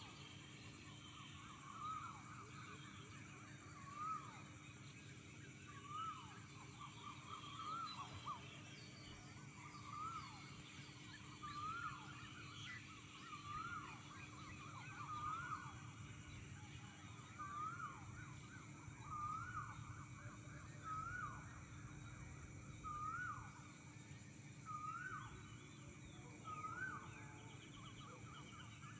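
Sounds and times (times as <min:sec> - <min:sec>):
faint higher bird calls: 0:00.0 - 0:28.9.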